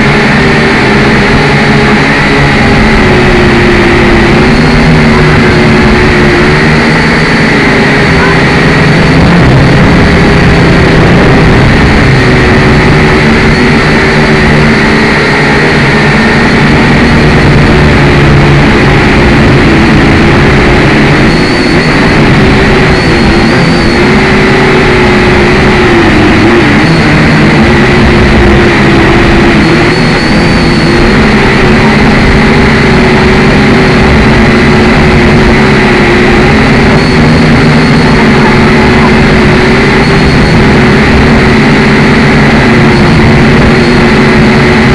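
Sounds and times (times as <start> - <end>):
drone propellers buzzing: 0.0 - 44.9.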